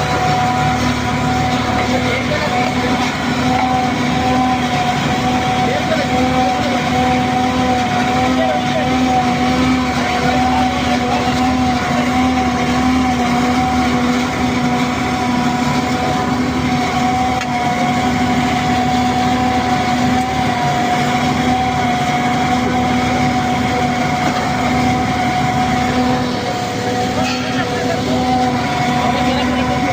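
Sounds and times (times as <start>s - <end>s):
hydraulic pile machine whining: 0.0s - 29.9s
tractor engine running: 0.0s - 29.9s.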